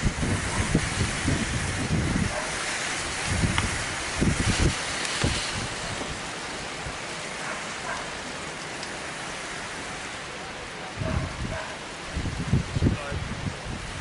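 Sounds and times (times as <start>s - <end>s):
wind buffeting microphone: 0.0s - 8.8s, 10.8s - 14.0s
hail falling: 0.0s - 14.0s.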